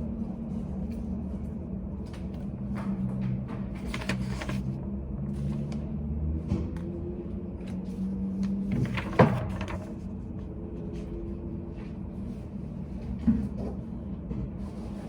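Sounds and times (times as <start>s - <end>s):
steady low room hum: 0.0s - 15.0s.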